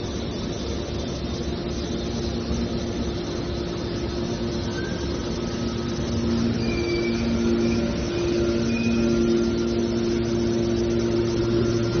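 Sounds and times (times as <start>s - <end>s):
hydraulic pump motor hum: 0.0s - 12.0s.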